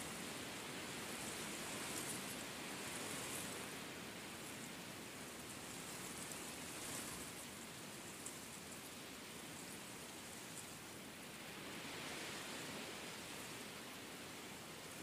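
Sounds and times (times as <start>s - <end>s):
steady hiss-like noise: 0.0s - 15.0s.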